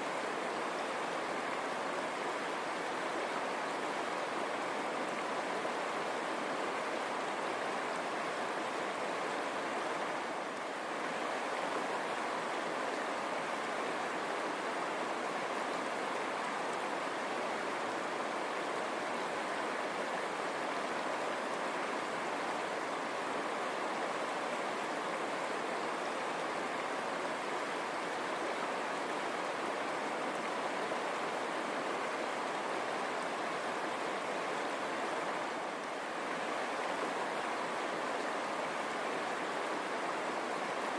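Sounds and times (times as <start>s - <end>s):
river water rushing over stones: 0.0s - 40.9s.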